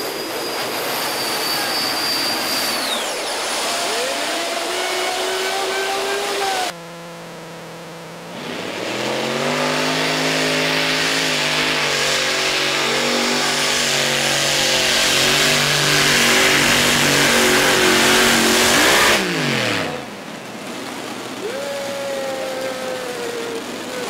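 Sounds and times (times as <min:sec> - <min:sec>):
pulling tractor engines at full throttle: 0:00.0 - 0:06.8, 0:08.2 - 0:24.0.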